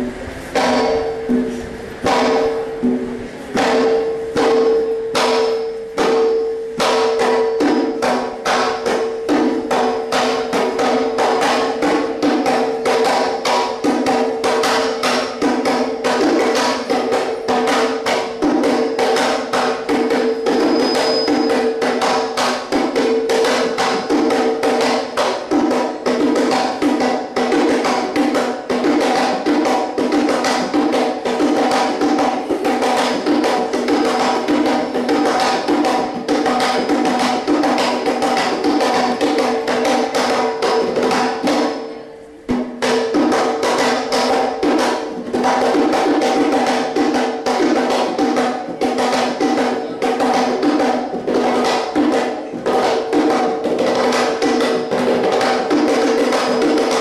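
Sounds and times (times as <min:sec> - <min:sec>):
fast pitched hand drumming: 0:00.0 - 0:57.0.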